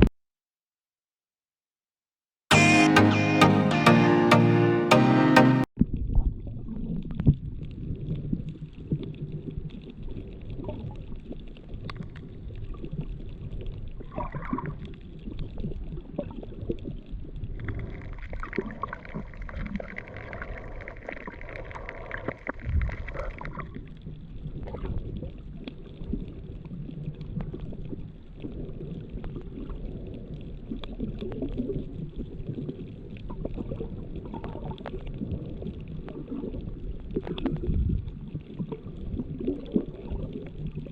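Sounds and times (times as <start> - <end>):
muffled rumble of moving water: 5.8 - 40.9
clicks and crackles: 6.8 - 40.9.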